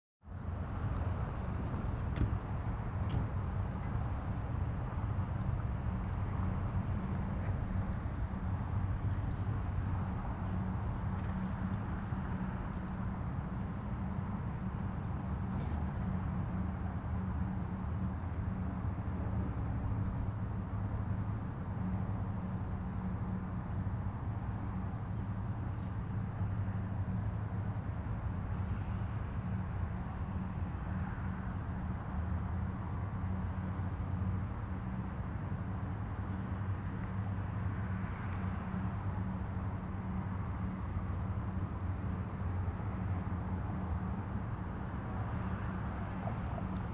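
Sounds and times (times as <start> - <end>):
distant highway traffic: 0.2 - 46.9.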